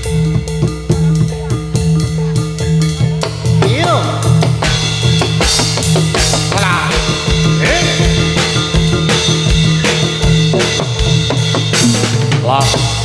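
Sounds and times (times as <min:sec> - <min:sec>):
drums in a steady beat: 0:00.0 - 0:13.0
sustained low tones: 0:00.0 - 0:13.0.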